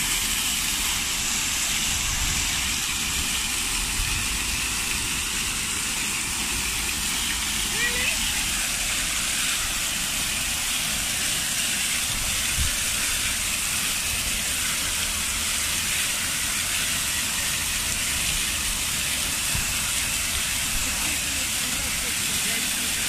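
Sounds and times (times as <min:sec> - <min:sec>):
fountain water splashing: 0:00.0 - 0:23.0.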